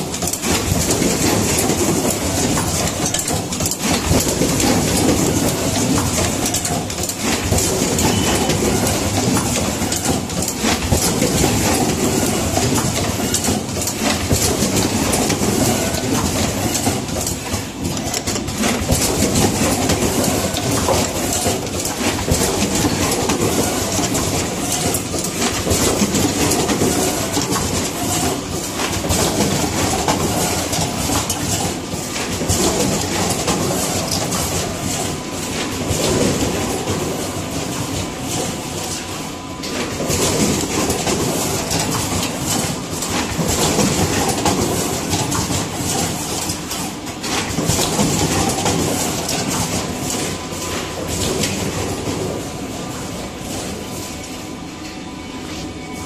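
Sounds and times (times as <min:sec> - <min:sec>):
crimping machine clattering: 0:00.0 - 0:39.0, 0:39.6 - 0:52.5.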